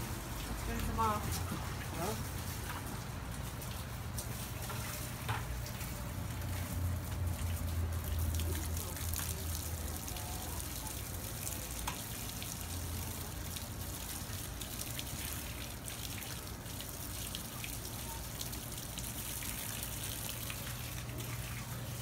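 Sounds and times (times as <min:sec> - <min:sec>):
water running from a hose: 0:00.0 - 0:22.0.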